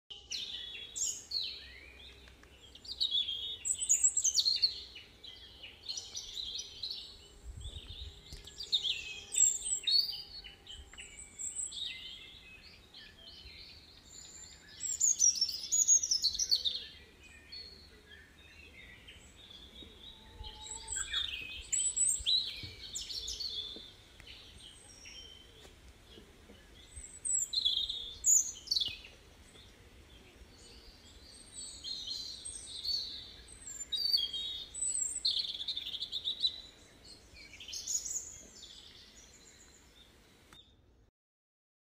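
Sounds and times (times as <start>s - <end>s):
birds chirping and whistling: 0.2s - 5.2s, 5.8s - 25.6s, 26.5s - 39.9s.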